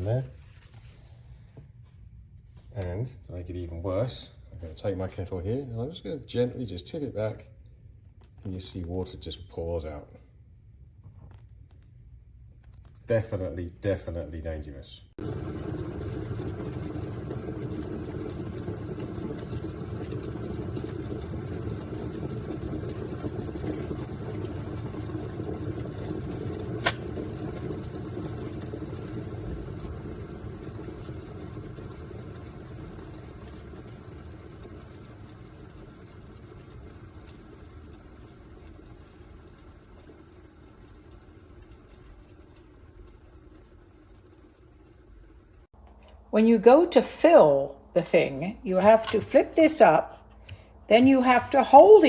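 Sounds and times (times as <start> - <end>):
electric kettle rumbling: 0.0 - 1.7, 2.8 - 10.2, 12.7 - 52.0.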